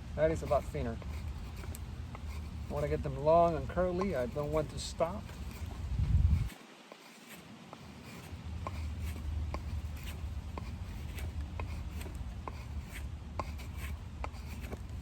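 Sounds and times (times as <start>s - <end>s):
knife shaving wood: 0.3s - 15.0s.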